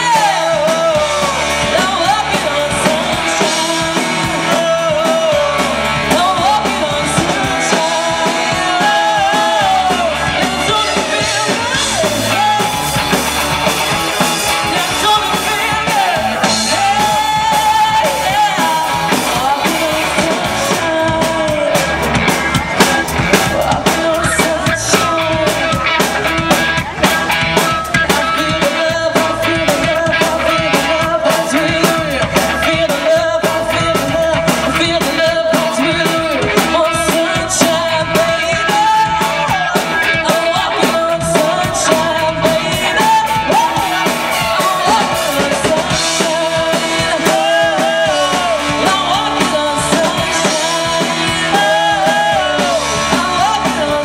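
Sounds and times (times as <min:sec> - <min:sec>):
live rock band playing: 0:00.0 - 0:54.0
woman singing lead: 0:00.0 - 0:54.0.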